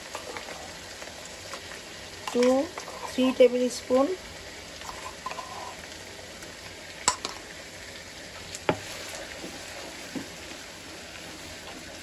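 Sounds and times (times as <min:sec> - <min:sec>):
onion paste sizzling in oil: 0:00.0 - 0:12.0.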